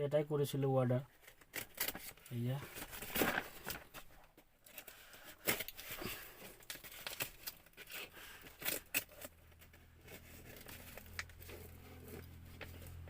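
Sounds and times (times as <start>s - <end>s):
packaging being torn and crinkled: 1.2s - 13.0s.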